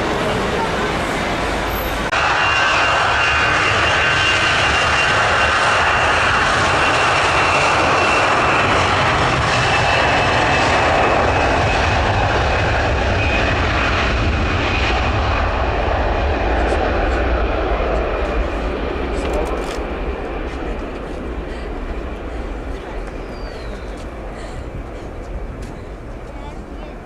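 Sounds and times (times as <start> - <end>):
jet engines roaring and whining: 0.0 - 27.0.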